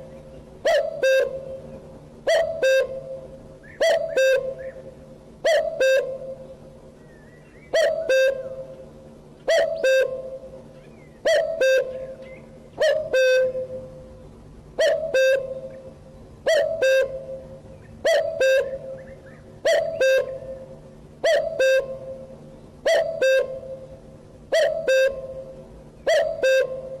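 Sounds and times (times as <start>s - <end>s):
faint steady hum: 0.0s - 27.0s
bird calling two-note phrase: 0.1s - 8.8s, 9.5s - 14.2s, 14.8s - 27.0s.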